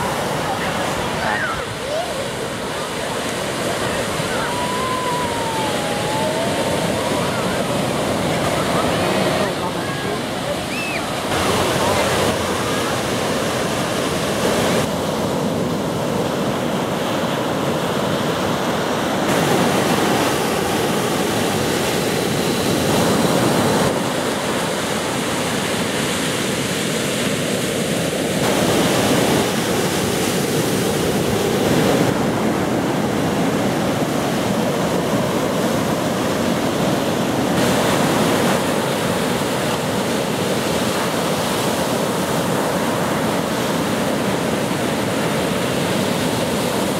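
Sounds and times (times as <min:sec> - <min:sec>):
ocean surf breaking: 0:00.0 - 0:46.9.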